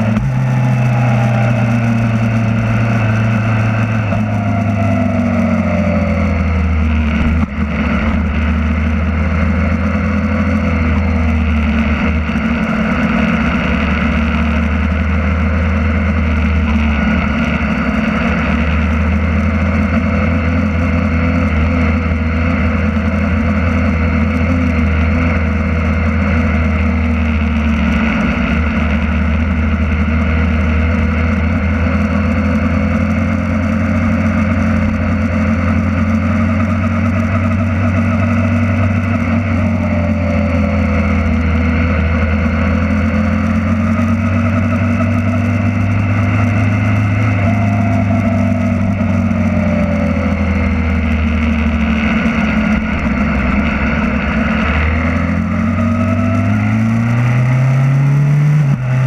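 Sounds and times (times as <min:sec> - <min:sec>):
motorcycle engine at low revs: 0:00.0 - 0:59.0.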